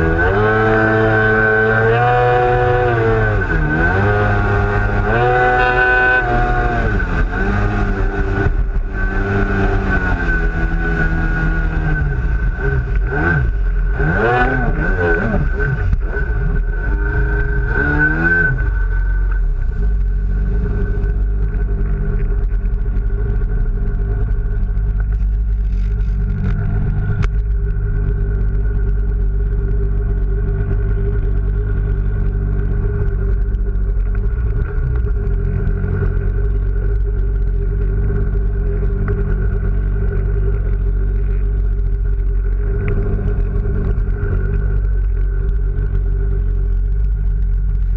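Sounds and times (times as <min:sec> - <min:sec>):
jet ski two-stroke engine: 0:00.0 - 0:47.9.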